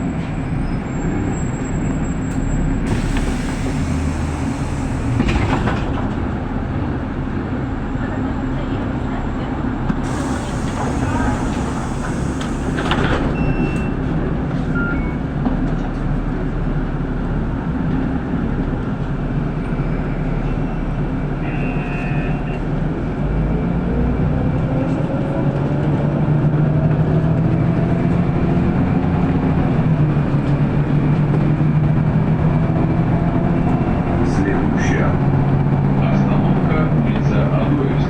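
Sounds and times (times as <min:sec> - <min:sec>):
bus engine and road noise: 0:00.0 - 0:38.0.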